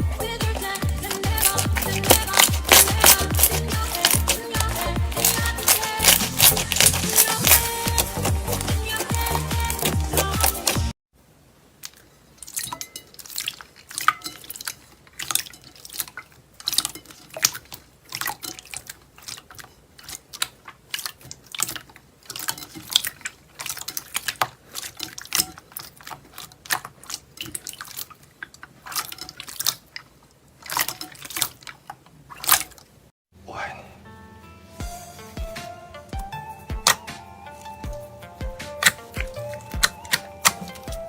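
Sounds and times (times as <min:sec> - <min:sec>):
slime squelching: 0:00.0 - 0:33.1, 0:35.2 - 0:41.0.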